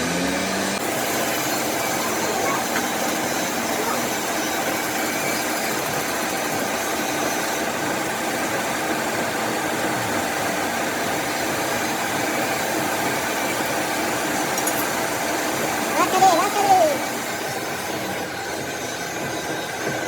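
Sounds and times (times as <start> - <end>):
workshop machine running: 0.0 - 20.0.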